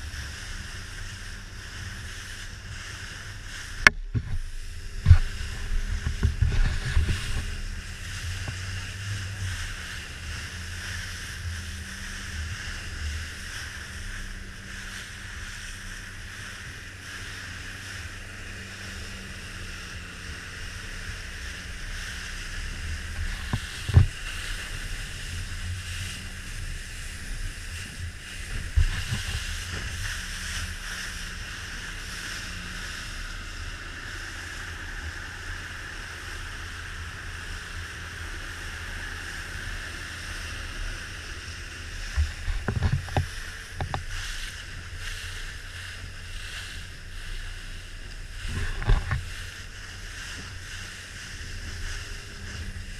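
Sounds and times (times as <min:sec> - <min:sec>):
boat engine hum: 0:00.0 - 0:52.9
rushing water: 0:00.0 - 0:52.9
wind: 0:00.0 - 0:52.9.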